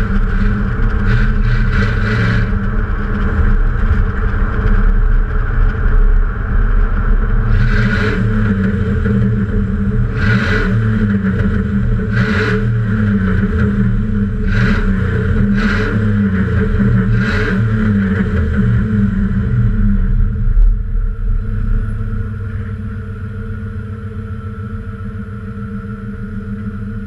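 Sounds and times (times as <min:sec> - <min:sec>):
truck exhaust running: 0:00.0 - 0:27.0.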